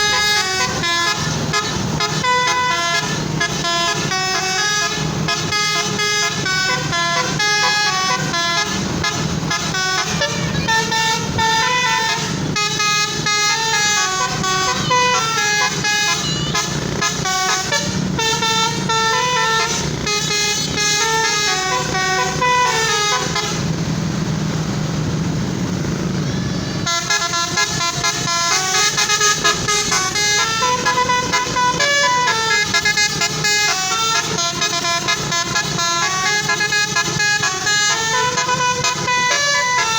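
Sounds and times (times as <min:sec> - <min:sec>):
multi-tone bus horn melody: 0:00.0 - 0:24.3, 0:26.0 - 0:39.9.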